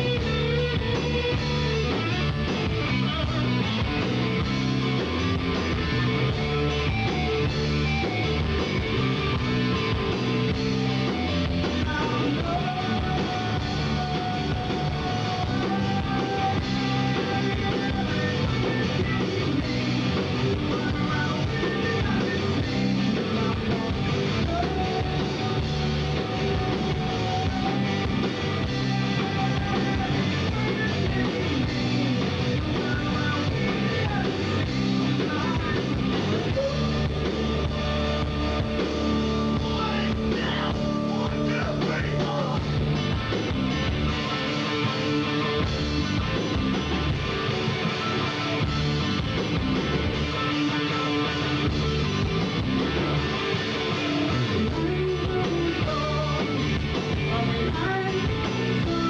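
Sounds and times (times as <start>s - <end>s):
bass: 0.0s - 59.0s
drums: 0.0s - 59.0s
electric guitars: 0.0s - 59.0s.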